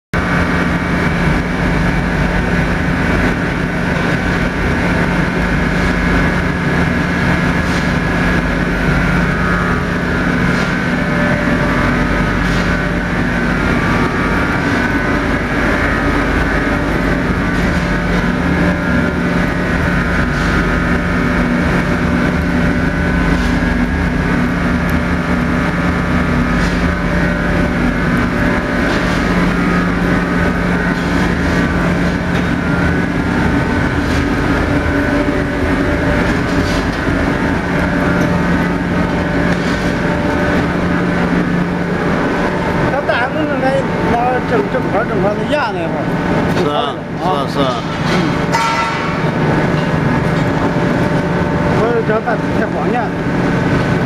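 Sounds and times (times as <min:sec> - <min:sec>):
high whining fan tones: 0:00.2 - 0:54.0
pellet burner humming: 0:00.2 - 0:54.0.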